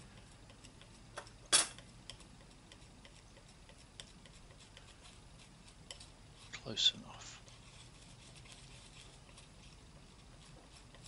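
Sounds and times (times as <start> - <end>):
palette knife scraping: 1.6 - 11.0.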